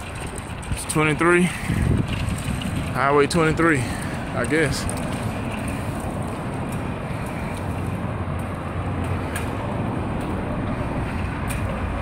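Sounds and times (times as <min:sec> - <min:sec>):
freeway traffic rumble: 0:00.0 - 0:12.0
wind noise on microphone: 0:00.0 - 0:12.0.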